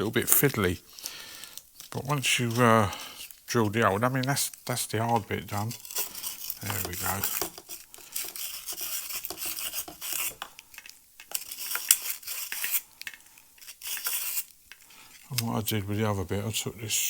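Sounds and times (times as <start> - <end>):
small hard parts clicking: 0.0 - 15.5.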